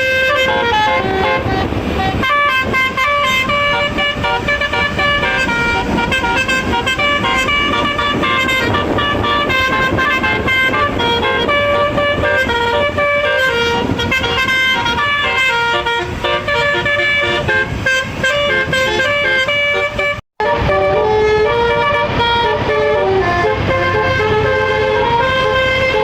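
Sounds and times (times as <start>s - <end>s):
bus air horn melody: 0.0s - 26.0s
road and engine noise: 0.0s - 26.0s.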